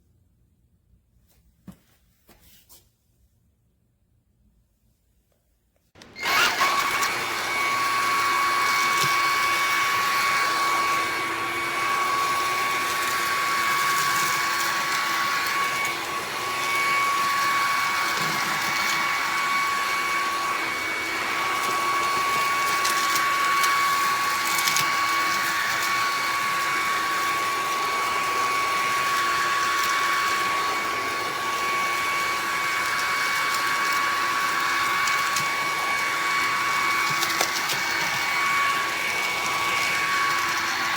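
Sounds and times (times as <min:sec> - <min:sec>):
vacuum cleaner motor whine: 0:06.0 - 0:40.9.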